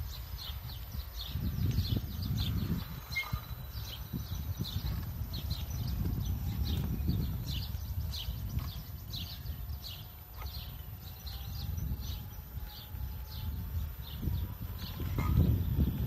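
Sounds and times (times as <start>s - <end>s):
bird chirping: 0.0s - 16.0s
mobility scooter rumbling: 0.0s - 16.0s.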